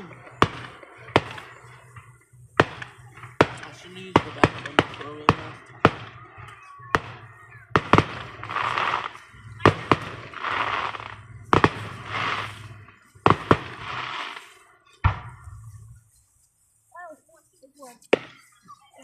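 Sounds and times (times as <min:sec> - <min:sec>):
fireworks banging: 0:00.0 - 0:16.0, 0:17.9 - 0:19.0
fireworks crackling: 0:00.0 - 0:19.0.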